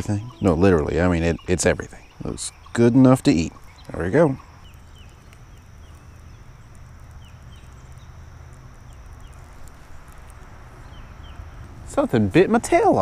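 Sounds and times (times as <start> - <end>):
high falling chirps: 0.0 - 13.0
insects droning: 0.0 - 13.0.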